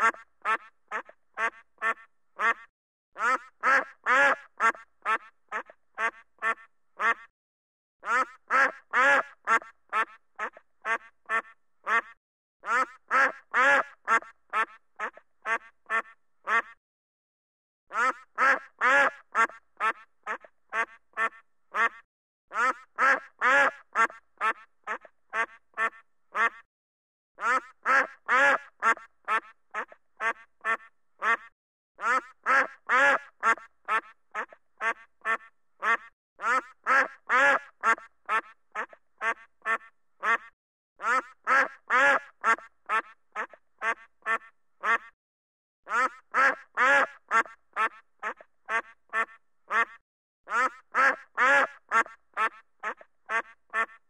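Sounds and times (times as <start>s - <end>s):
duck quacking: 0.0s - 7.3s, 8.0s - 16.8s, 17.9s - 26.7s, 27.4s - 45.2s, 45.9s - 54.0s.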